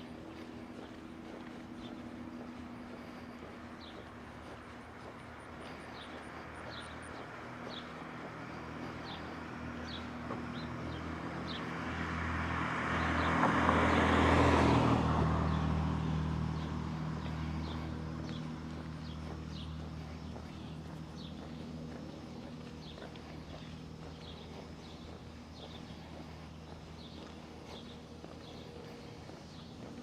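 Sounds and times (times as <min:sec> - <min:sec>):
car passing: 0:00.0 - 0:30.0.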